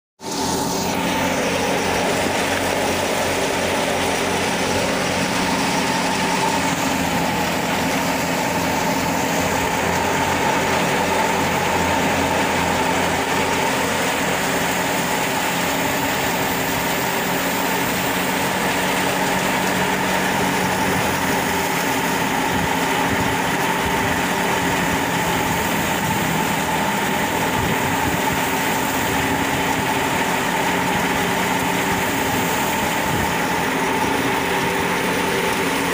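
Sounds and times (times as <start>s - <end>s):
rushing chaff: 0.2s - 35.9s
threshing machine whirring: 0.2s - 35.9s
tractor engine drone: 0.2s - 35.9s.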